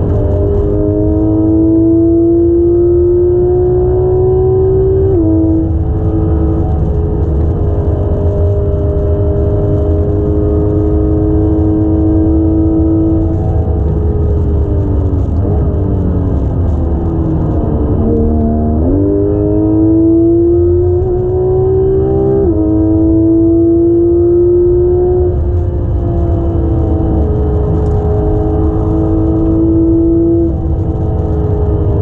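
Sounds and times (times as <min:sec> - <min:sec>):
car engine from inside cabin: 0:00.0 - 0:32.0
gear change: 0:00.0 - 0:32.0.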